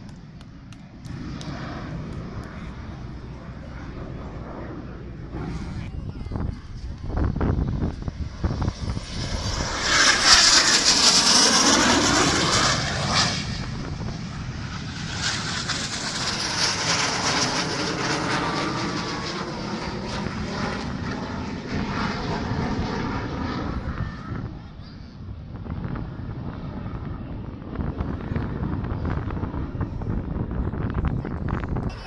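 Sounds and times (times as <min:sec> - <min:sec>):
military jet engine passing low: 0:00.0 - 0:32.0.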